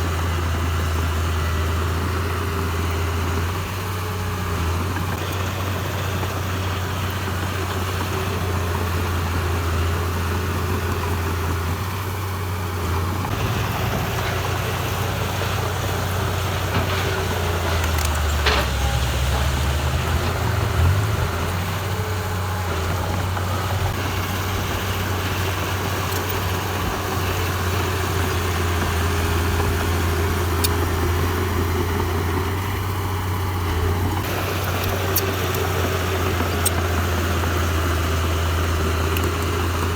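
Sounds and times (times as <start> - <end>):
heavy diesel engine humming: 0.0 - 39.9.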